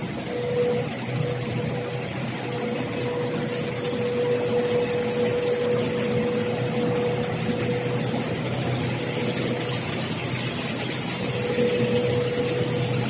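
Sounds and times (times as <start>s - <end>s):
machinery drone: 0.0s - 13.0s
paper hissing over rollers: 0.0s - 13.0s.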